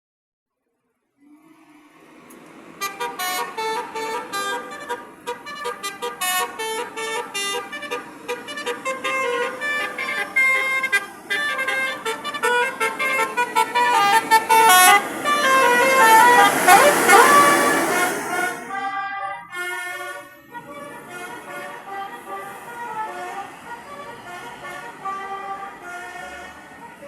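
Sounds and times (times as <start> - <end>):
musical air horn tune: 2.8 - 27.0.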